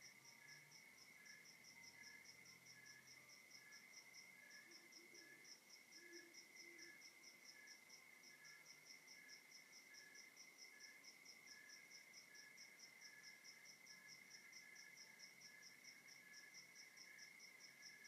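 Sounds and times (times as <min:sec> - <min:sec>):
cricket even high chirps: 0:00.0 - 0:18.0
cricket irregular low chirps: 0:00.0 - 0:18.0
cricket steady trill: 0:00.0 - 0:18.0.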